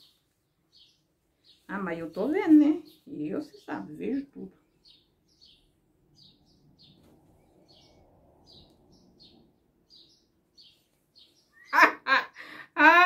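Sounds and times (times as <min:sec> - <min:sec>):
bird chirping: 0:00.0 - 0:11.9.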